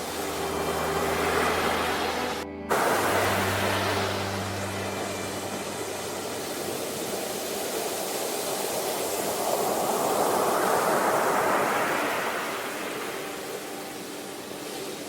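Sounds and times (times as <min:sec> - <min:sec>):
ocean surf rushing: 0:00.0 - 0:15.0
wave breaking on shore: 0:00.0 - 0:15.0.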